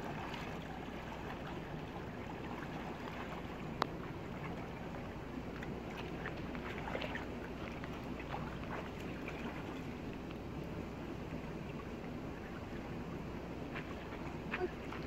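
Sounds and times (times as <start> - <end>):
steady outdoor noise: 0.0 - 15.0
water splashes from wading: 0.0 - 15.0.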